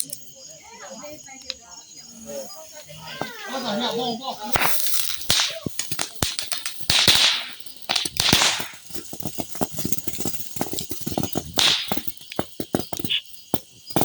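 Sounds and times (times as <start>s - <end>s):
firework hiss bursts: 0.0s - 14.0s
firework crackling pops: 2.7s - 14.0s.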